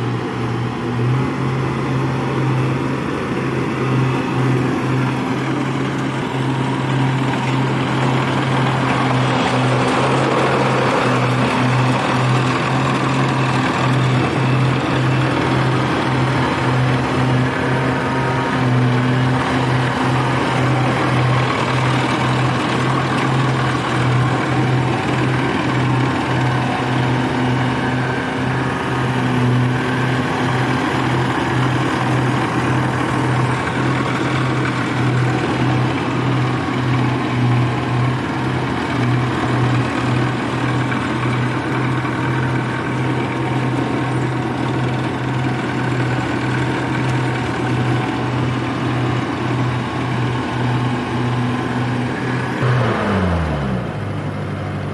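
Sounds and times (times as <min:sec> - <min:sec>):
harvester engine running: 0:00.0 - 0:54.9.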